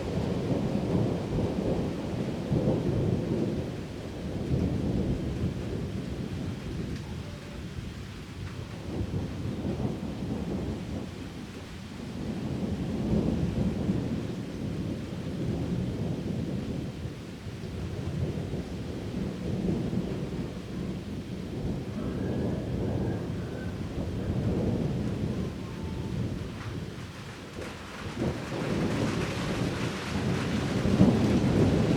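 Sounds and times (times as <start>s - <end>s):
heavy rain downpour: 0.0s - 31.9s
thunder rumbling: 0.0s - 31.9s.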